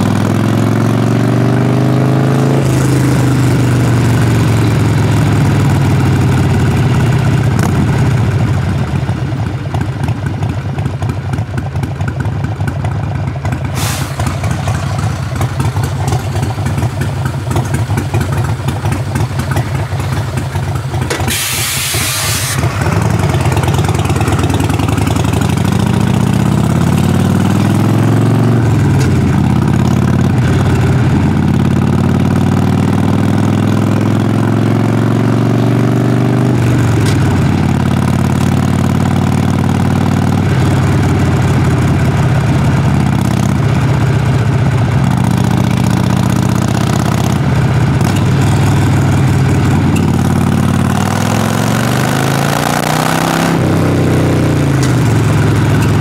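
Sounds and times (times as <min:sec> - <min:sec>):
motorcycle exhaust revving: 0:00.0 - 0:56.0.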